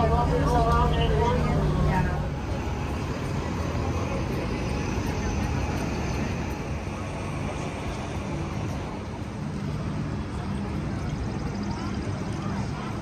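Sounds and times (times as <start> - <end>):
faint crowd voices: 0.0 - 13.0
low outdoor rumble: 0.0 - 13.0.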